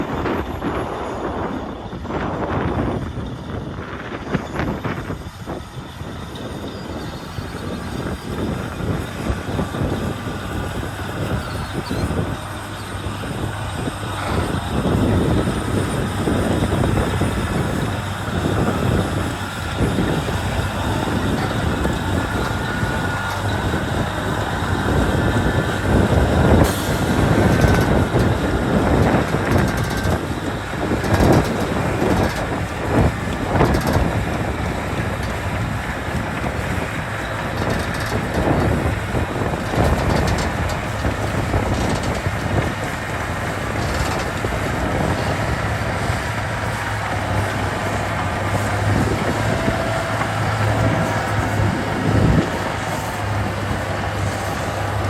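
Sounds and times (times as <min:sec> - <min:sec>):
diesel engine rumbling: 0:00.0 - 0:55.0
wind noise on microphone: 0:00.0 - 0:55.0.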